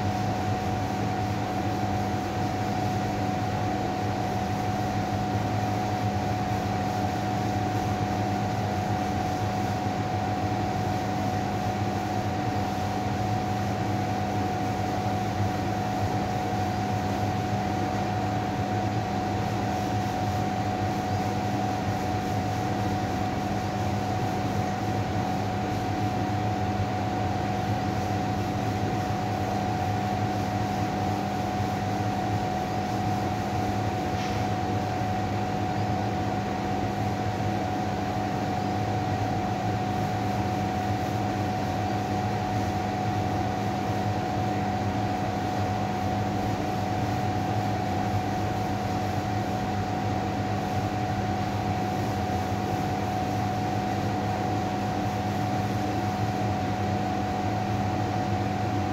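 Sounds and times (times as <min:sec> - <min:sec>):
steady hum and hiss: 0:00.0 - 0:58.9.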